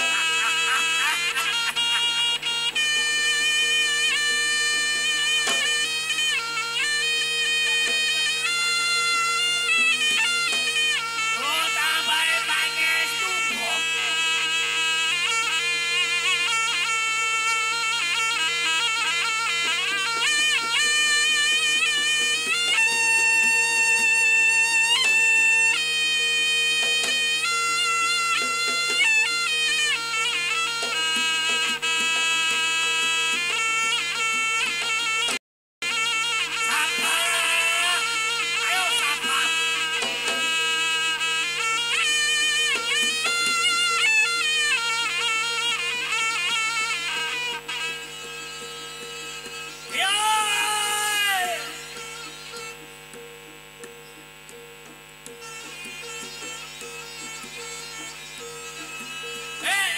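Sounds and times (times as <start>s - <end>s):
double-reed shawm long notes: 0.0s - 59.9s
repeating percussion: 0.0s - 59.9s.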